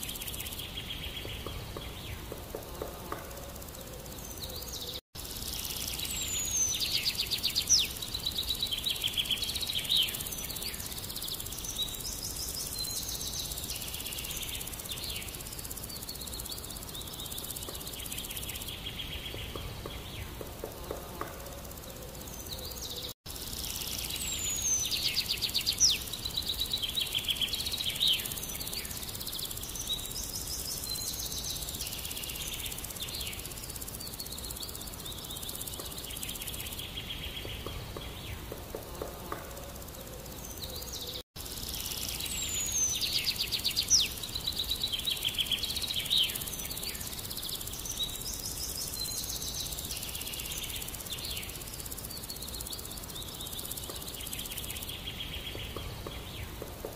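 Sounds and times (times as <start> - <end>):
small birds chirping and singing: 0.0 - 56.9
steady background hiss: 0.0 - 56.9.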